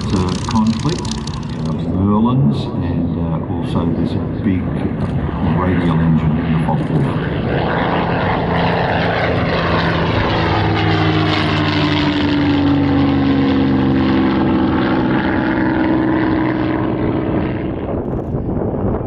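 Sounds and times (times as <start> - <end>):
propeller planes flying past: 0.0 - 19.0.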